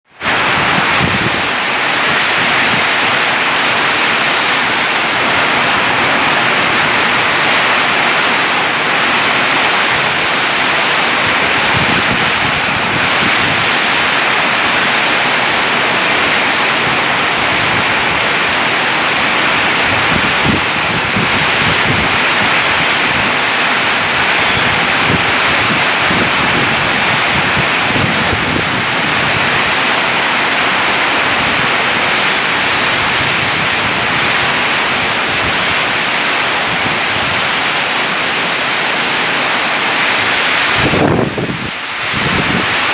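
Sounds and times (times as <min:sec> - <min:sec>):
heavy rain pouring: 0:00.0 - 0:42.9
wind buffeting microphone: 0:00.2 - 0:42.9.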